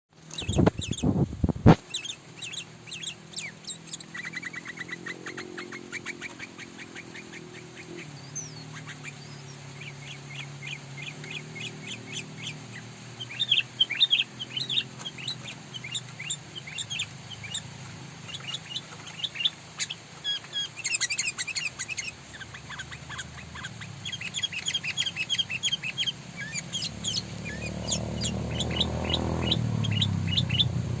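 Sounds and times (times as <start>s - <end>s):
bird chirping and chattering: 0.2s - 31.0s.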